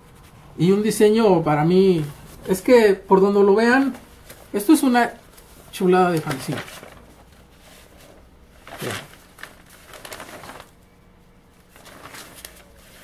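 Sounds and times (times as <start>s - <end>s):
paper pages rustling: 1.8s - 13.0s.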